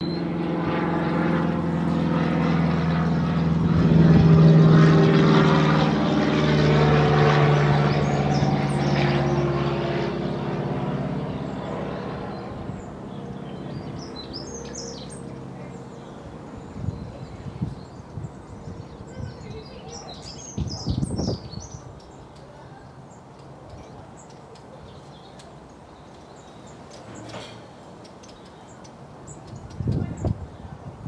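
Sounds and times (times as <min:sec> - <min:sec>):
passing aircraft engine drone: 0:00.0 - 0:31.0.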